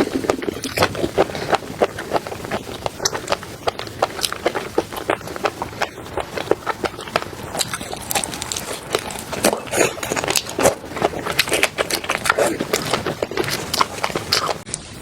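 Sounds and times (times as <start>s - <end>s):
person chewing food: 0.0s - 14.8s.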